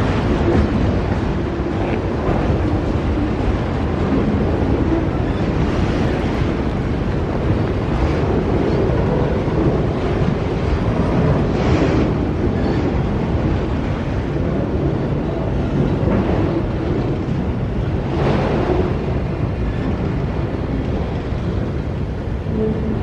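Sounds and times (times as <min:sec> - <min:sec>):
train rumbling past: 0:00.0 - 0:23.0
wind buffeting microphone: 0:00.0 - 0:23.0.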